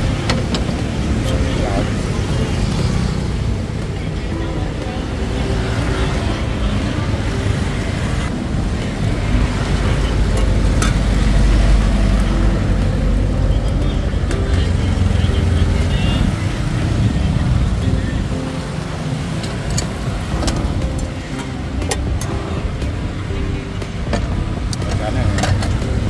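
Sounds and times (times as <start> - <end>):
faint voices: 0.0 - 26.0
passing vehicles rumble: 0.0 - 26.0.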